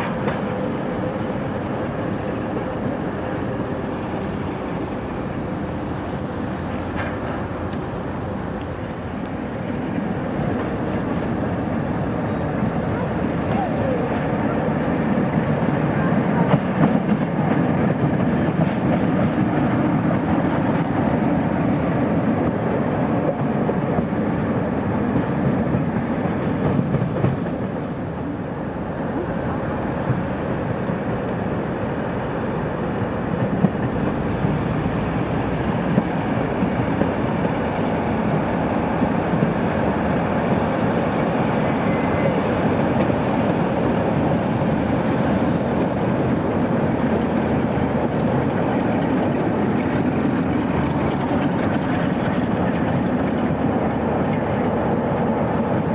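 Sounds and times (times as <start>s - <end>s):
train rumbling by: 0.0s - 55.9s.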